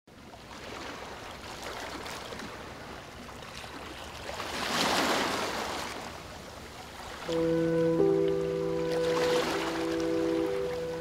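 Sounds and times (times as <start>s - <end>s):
sea waves breaking on shore: 0.1s - 11.0s.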